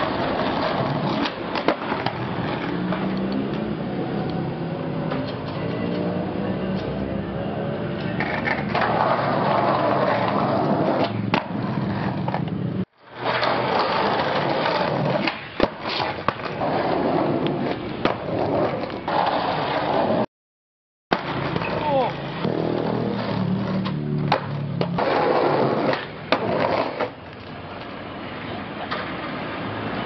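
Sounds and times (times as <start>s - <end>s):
skateboard clacking on ground: 0.0s - 4.4s, 5.0s - 6.1s, 7.9s - 20.2s, 21.1s - 29.4s
skateboard wheels rolling on concrete: 0.0s - 20.3s, 21.1s - 30.0s.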